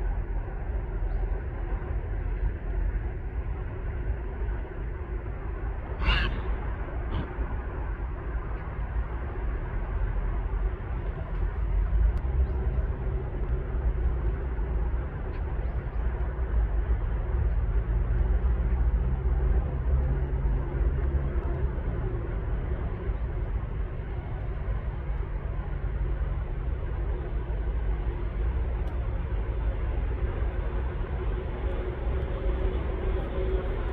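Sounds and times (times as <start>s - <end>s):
low outdoor rumble: 0.0s - 33.9s.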